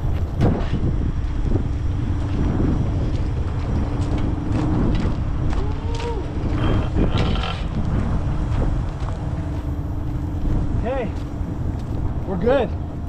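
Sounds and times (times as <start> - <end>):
wheels rumbling on steel rail: 0.0 - 13.0
wind on microphone: 0.0 - 13.0.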